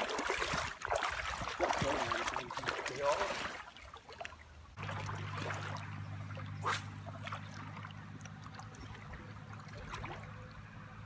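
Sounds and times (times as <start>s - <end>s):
wading through shallow water: 0.0s - 11.0s.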